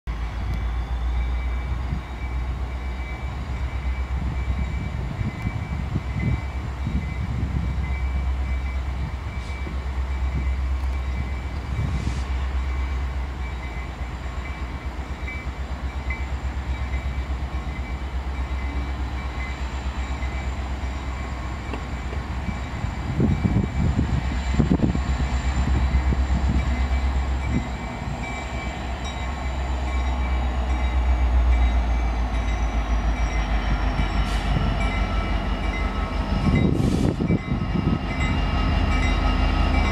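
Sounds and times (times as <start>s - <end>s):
diesel locomotive engine rumbling: 0.0s - 39.9s.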